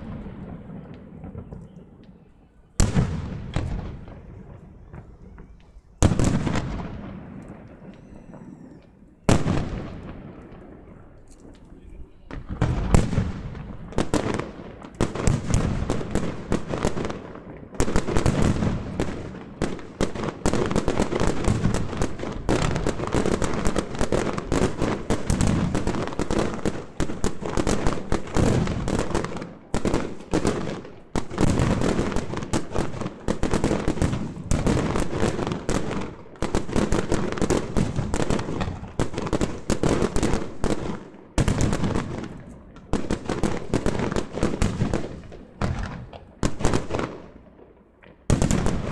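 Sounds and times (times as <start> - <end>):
fireworks bursts and crackles: 0.0 - 48.9.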